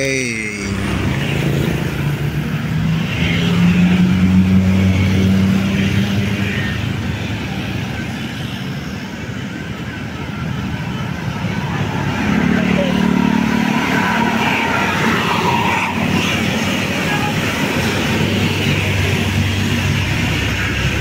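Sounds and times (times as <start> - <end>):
bus diesel engine passing: 0.0 - 21.0.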